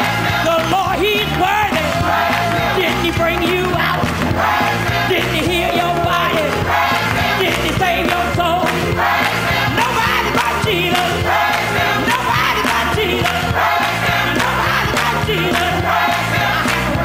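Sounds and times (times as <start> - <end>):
band playing gospel music: 0.0 - 17.0
choir singing: 0.0 - 17.0
steady bass line: 0.0 - 17.0.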